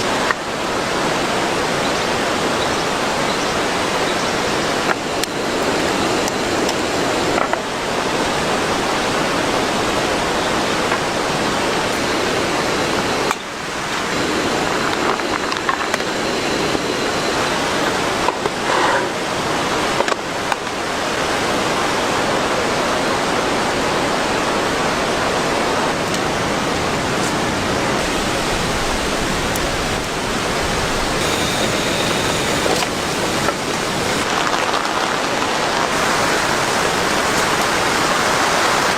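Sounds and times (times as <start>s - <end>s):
heavy rain pouring: 0.0s - 18.6s, 19.2s - 38.9s.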